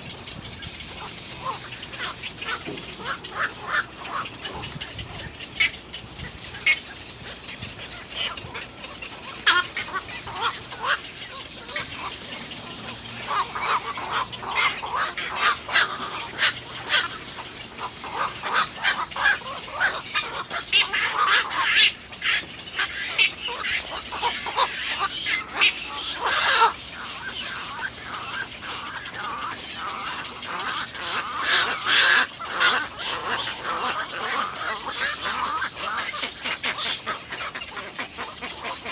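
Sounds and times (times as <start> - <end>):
egrets calling: 0.0 - 38.9.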